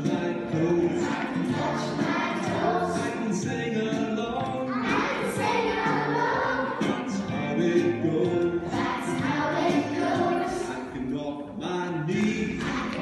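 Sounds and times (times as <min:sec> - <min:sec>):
children singing together: 0:00.0 - 0:11.1, 0:12.2 - 0:13.0
musical accompaniment: 0:00.0 - 0:13.0.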